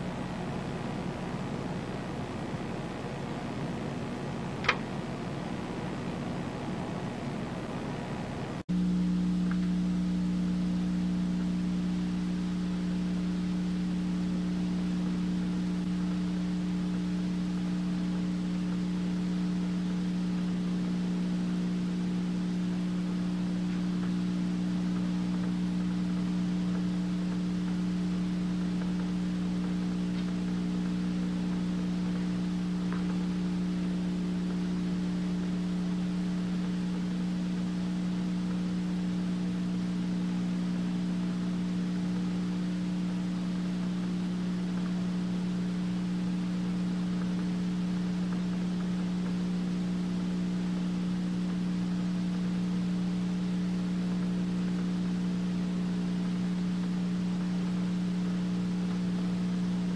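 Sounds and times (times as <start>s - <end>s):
low hum: 0.0s - 59.9s.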